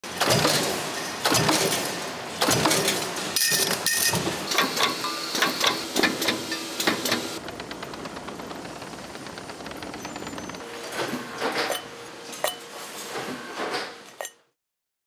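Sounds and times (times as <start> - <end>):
running machine noise: 0.0 - 14.3
machinery clanking and knocking: 0.0 - 14.4.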